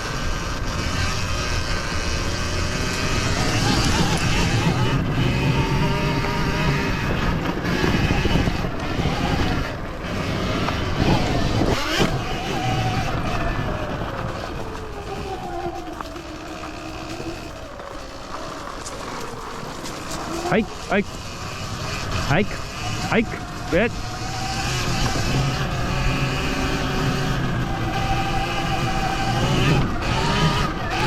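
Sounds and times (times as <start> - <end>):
electric motor whining: 0.0 - 31.0
wind noise: 0.0 - 31.0.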